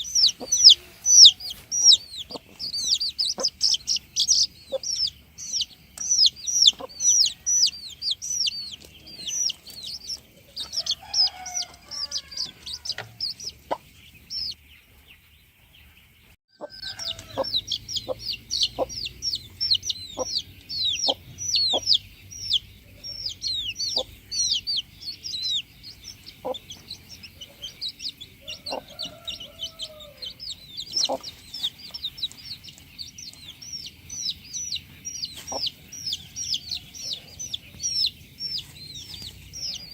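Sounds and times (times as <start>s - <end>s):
chickens chirping: 0.0s - 39.9s
chickens clucking: 0.0s - 39.9s.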